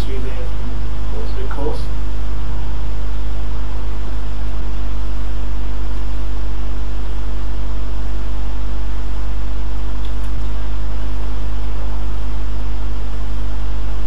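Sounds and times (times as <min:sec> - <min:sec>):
loud steady hiss: 0:00.0 - 0:14.0
low hum with constant tones: 0:00.0 - 0:14.0.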